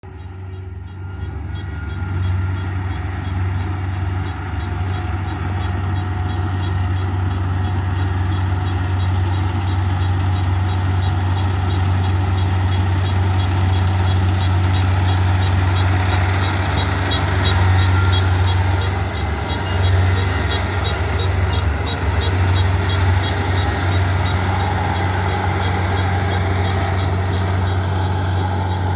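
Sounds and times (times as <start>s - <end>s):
combine harvester engine hum: 0.0s - 28.9s
regular high ticking: 0.1s - 28.9s.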